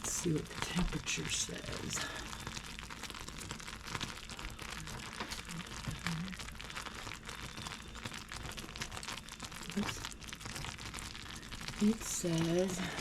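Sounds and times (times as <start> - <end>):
toffee boiling in a pot: 0.0 - 13.0.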